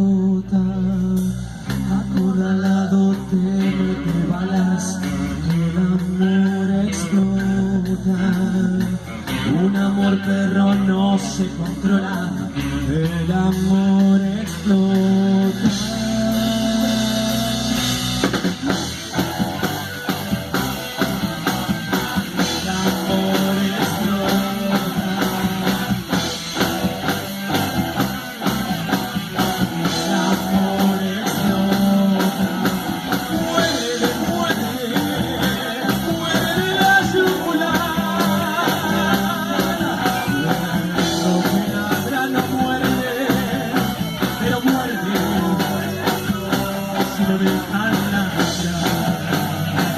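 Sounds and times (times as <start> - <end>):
electric guitar: 0.0 - 49.9
drum kit beat: 0.9 - 49.9.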